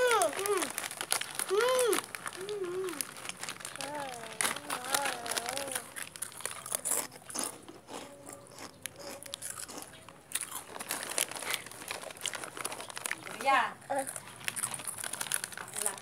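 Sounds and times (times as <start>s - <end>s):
crunchy food being chewed: 0.0s - 16.0s.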